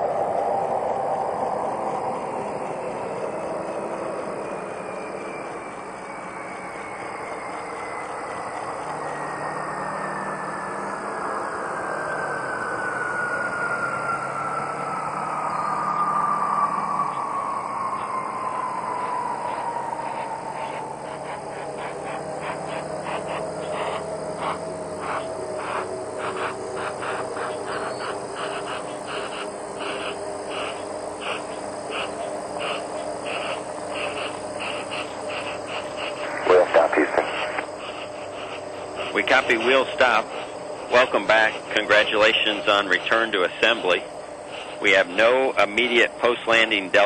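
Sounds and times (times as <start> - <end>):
crickets chirping: 0.0 - 47.0
high whine falling in pitch: 0.0 - 47.0
steady rushing noise: 0.0 - 47.0.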